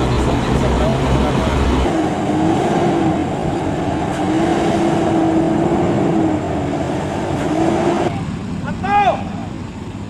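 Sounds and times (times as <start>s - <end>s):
heavy truck engine droning: 0.0s - 10.0s.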